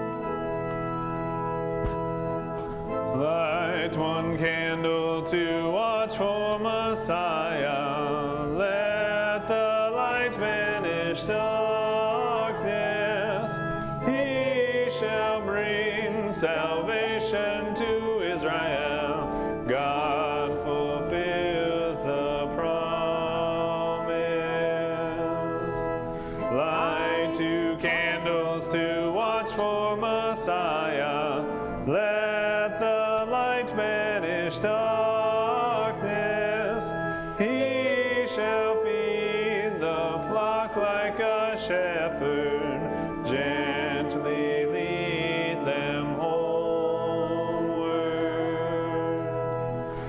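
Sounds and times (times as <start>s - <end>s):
congregation singing a hymn: 0.0s - 50.0s
organ chords: 0.0s - 50.0s.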